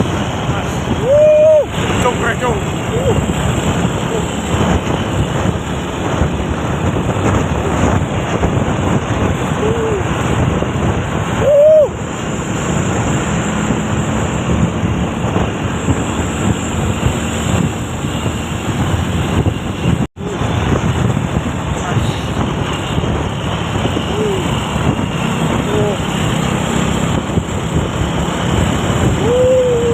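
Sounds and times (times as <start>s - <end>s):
road noise: 0.0s - 29.9s
truck engine: 0.0s - 29.9s
wind buffeting microphone: 0.0s - 29.9s.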